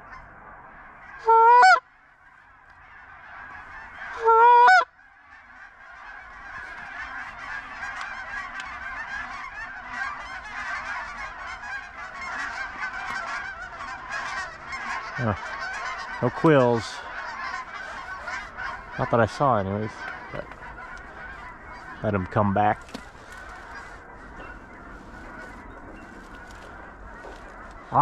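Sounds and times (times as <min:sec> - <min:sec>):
flock of geese calling: 0:00.0 - 0:28.0
loud close goose honks: 0:00.0 - 0:28.0.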